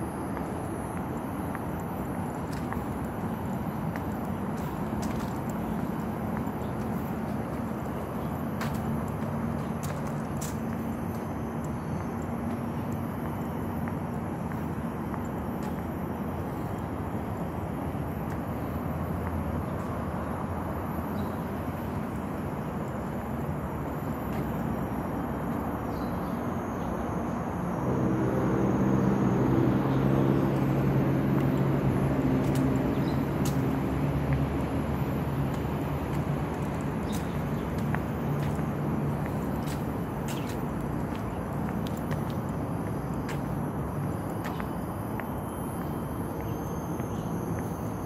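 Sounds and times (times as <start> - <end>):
low engine hum: 0.0 - 48.0
road traffic noise: 0.0 - 48.0.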